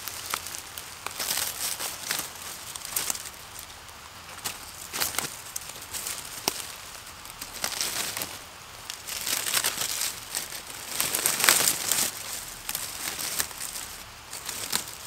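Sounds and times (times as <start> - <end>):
dry leaves and twigs rustling: 0.0 - 15.0.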